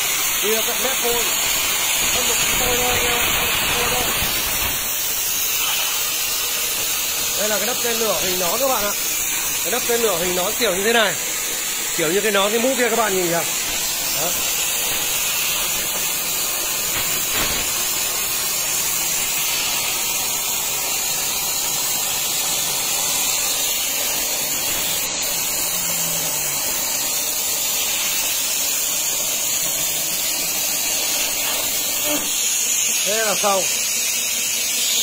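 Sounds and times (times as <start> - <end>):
plasma torch hissing: 0.0 - 35.0.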